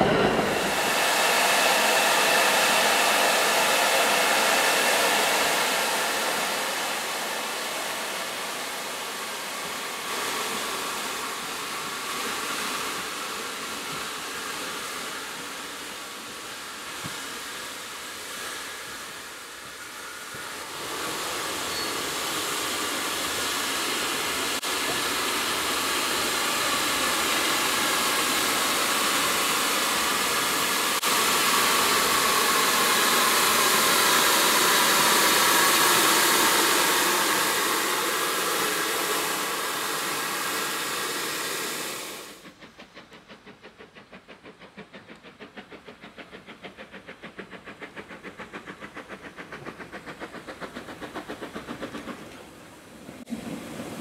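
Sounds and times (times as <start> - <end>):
steam locomotive hissing steam: 0.0 - 54.0.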